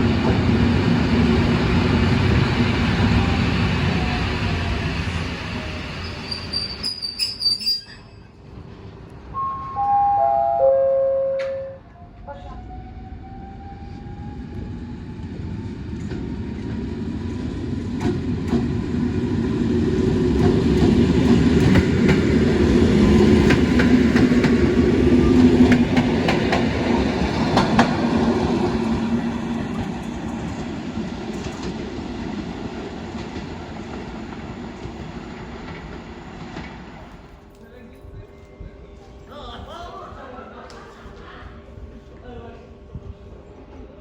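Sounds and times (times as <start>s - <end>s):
train rumbling past: 0.0s - 40.2s.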